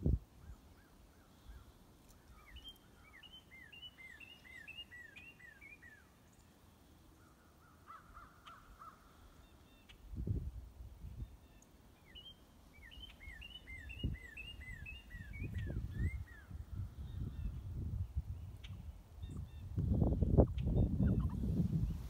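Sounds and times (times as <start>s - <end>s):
faint birdsong: 0.0s - 22.0s.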